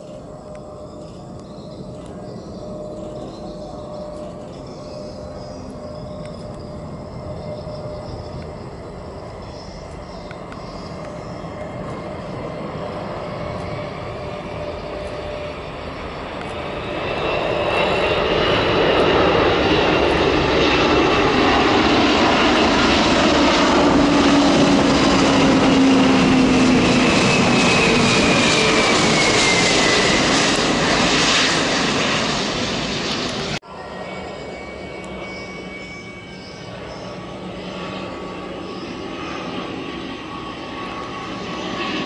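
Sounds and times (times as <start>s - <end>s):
high turbine whine: 0.0s - 42.0s
jet aircraft engines on approach: 0.0s - 42.0s.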